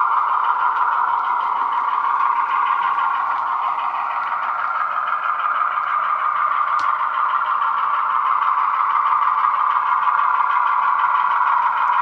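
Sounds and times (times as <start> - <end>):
diesel engine sound through small speaker: 0.0 - 12.0.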